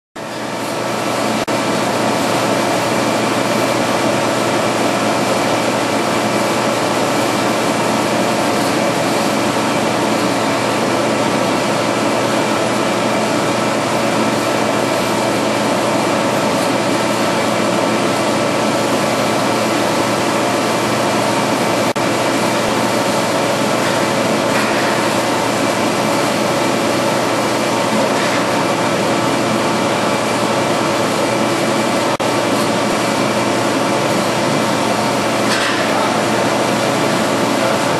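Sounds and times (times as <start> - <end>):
packaging machine humming: 0.2 - 37.9.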